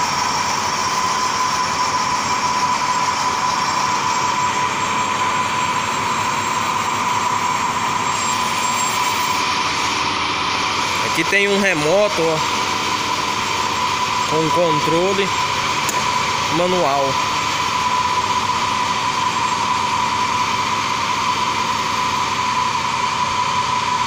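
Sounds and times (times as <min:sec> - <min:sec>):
lathe running with high whine: 0:00.0 - 0:24.0.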